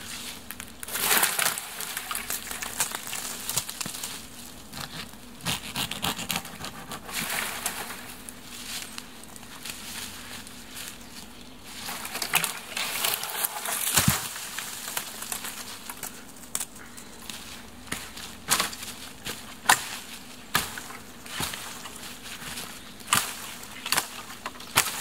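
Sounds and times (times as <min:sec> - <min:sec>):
dry branches crackling: 0:00.0 - 0:25.0
branches snapping: 0:00.5 - 0:09.9, 0:11.8 - 0:25.0.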